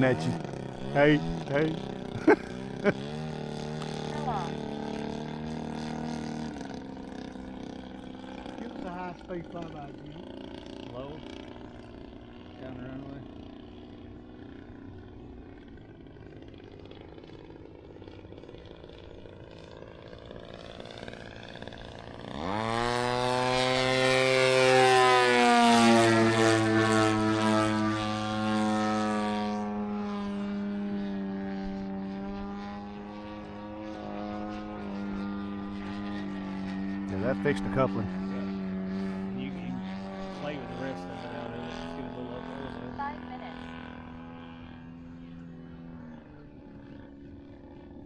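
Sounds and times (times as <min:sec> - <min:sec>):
model airplane engine passing: 0:00.0 - 0:48.0.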